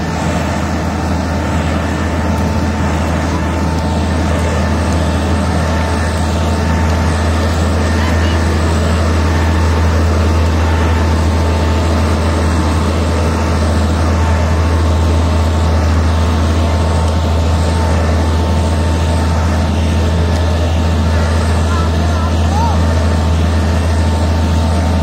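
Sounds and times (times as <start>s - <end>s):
engine droning steadily: 0.0s - 25.0s.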